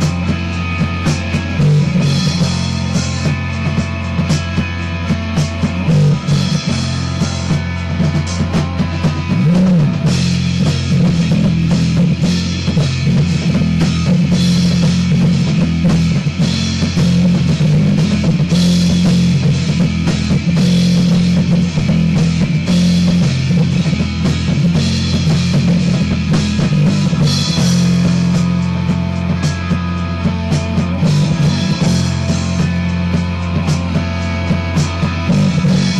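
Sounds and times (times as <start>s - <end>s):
rock band playing: 0.0s - 35.9s.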